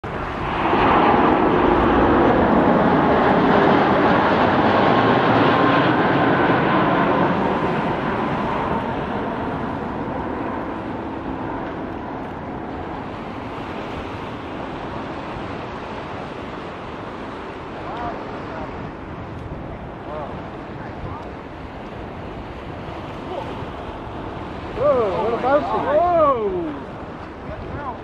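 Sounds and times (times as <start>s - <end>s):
jet engine rush: 0.0s - 28.0s.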